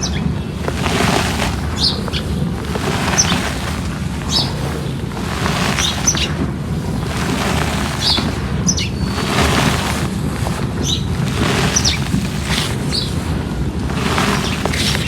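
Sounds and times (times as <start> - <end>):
small birds chirping: 0.0 - 13.3, 13.9 - 15.0
low rustling noise: 0.0 - 15.0.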